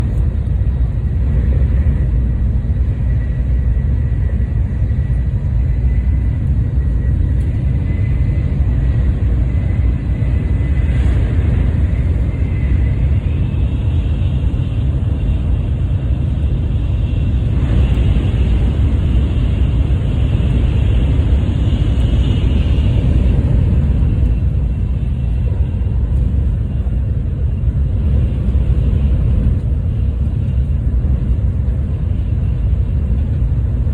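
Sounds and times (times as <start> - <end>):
high-speed train rumble: 0.0 - 33.9.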